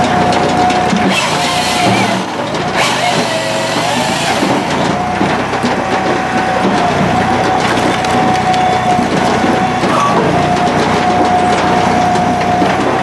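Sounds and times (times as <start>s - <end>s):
firewood processor drone and whine: 0.0s - 13.0s.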